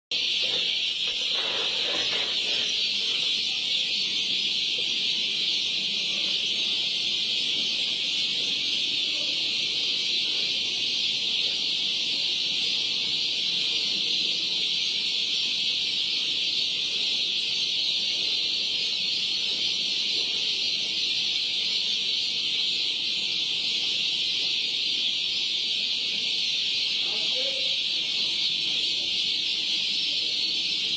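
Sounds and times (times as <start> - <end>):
chicks peeping: 0.1 - 30.9.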